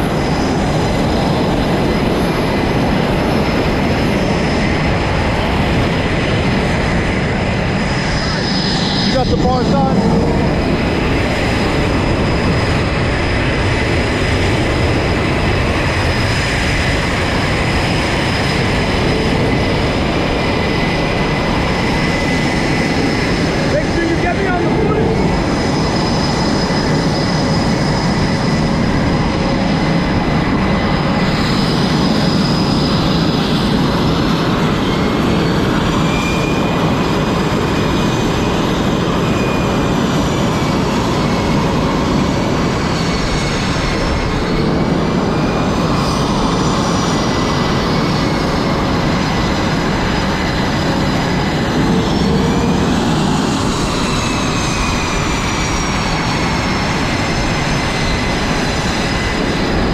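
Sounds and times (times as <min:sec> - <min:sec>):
high turbine whines: 0:00.0 - 0:59.9
jet engines roaring: 0:00.0 - 0:59.9.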